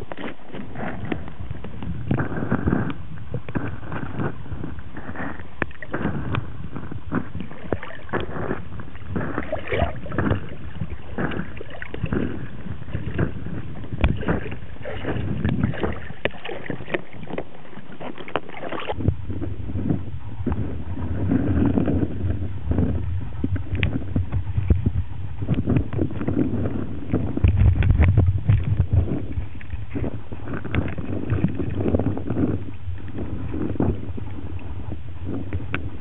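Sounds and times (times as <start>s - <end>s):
dog paddling in water: 0.0s - 36.0s
muffled water splashes: 0.0s - 36.0s.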